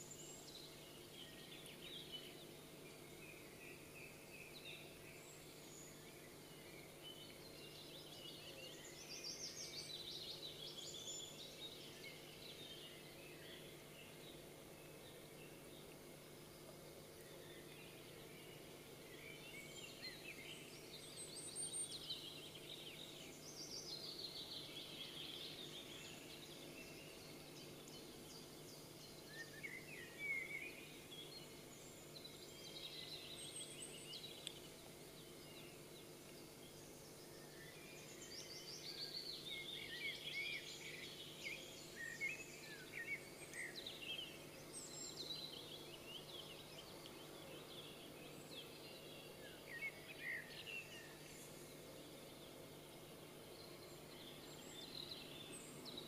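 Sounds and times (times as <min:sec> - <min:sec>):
low background hum: 0:00.0 - 0:56.0
songbirds chirping and trilling: 0:00.0 - 0:56.0.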